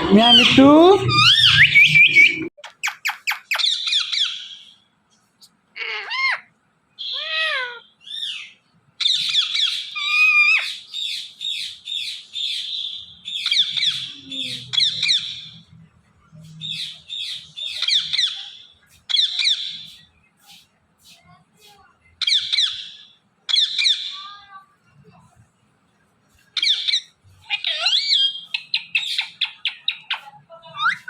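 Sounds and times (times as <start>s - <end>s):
parakeets chirping and screeching: 0.0s - 4.8s, 5.8s - 15.7s, 16.4s - 24.6s, 26.3s - 31.0s.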